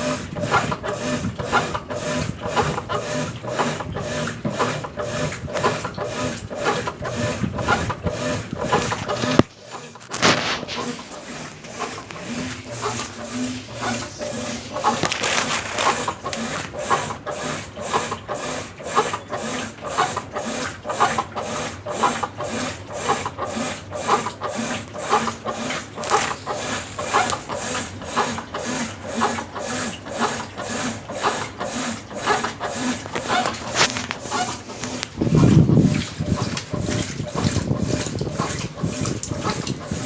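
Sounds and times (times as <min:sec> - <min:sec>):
washing machine swishing clothes: 0:00.0 - 0:40.0.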